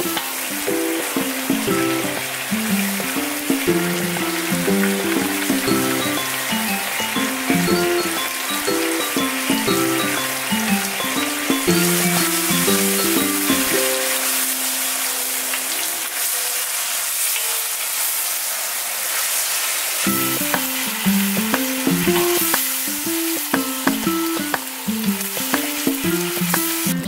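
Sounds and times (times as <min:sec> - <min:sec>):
background music: 0:00.0 - 0:16.3, 0:20.1 - 0:27.0
vegetables sizzling in a wok: 0:00.0 - 0:27.0.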